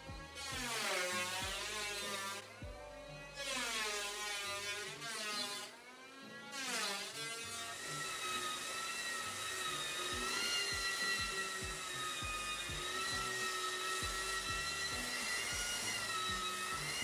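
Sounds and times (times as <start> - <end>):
electric planer cutting wood: 0.0 - 17.0.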